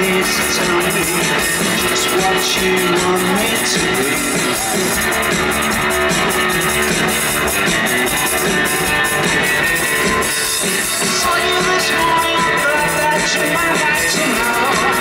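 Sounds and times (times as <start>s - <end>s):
electric guitar: 0.0s - 15.0s
live rock band: 0.0s - 15.0s.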